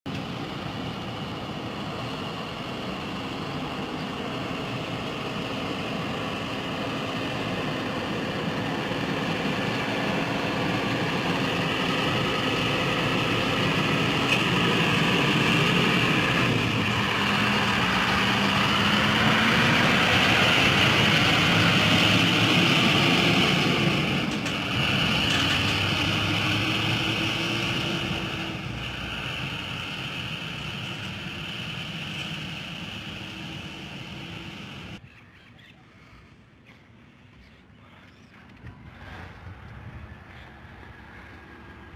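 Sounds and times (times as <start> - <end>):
truck diesel engine approaching: 0.1 - 35.0
truck tyres on road: 0.1 - 35.0, 38.4 - 41.9.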